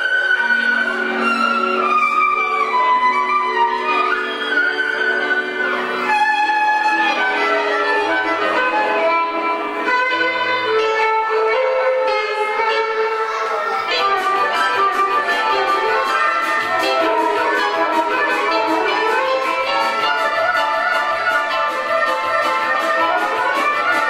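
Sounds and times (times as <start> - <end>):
violin melody: 0.0 - 24.0.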